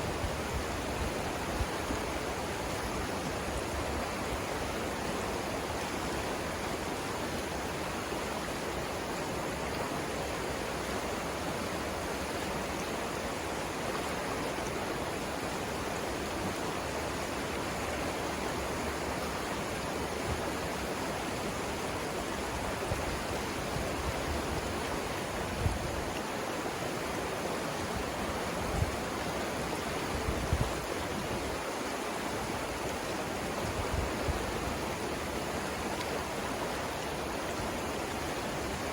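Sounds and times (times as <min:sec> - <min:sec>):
river water flowing over rapids: 0:00.0 - 0:38.9.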